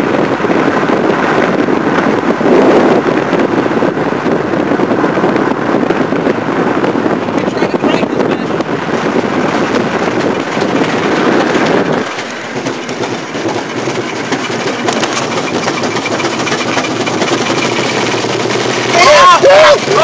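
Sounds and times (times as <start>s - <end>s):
road noise inside car: 0.0s - 20.0s
wind rushing: 0.0s - 20.0s.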